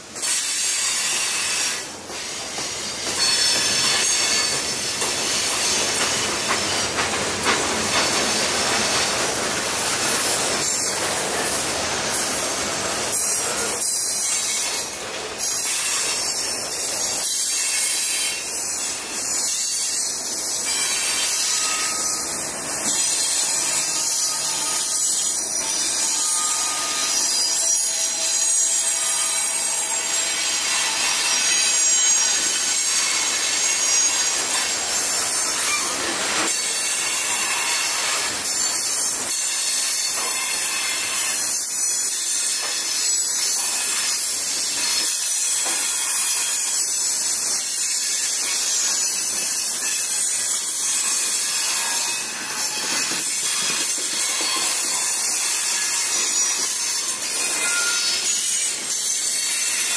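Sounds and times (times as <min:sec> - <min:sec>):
steel wheels clattering on rails: 0:00.0 - 0:59.9.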